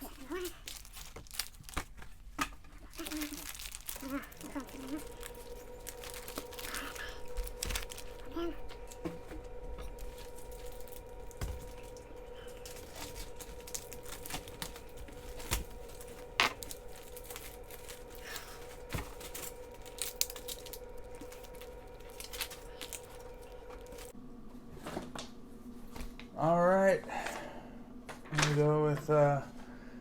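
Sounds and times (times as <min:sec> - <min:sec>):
packaging rustling and crinkling: 0:00.0 - 0:24.2
faint steady hum: 0:00.0 - 0:30.0.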